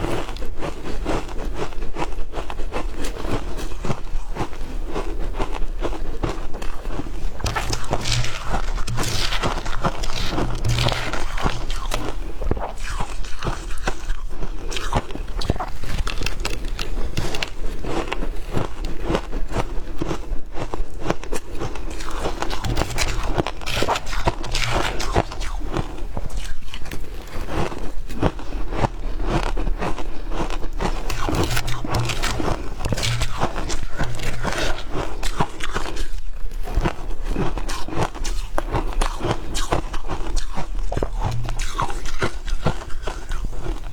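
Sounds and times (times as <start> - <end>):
crunching shaved ice: 0.1 - 43.9.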